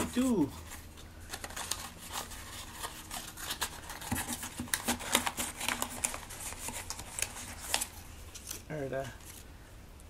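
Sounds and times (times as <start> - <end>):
packaging crackling and rustling: 0.0 - 9.5.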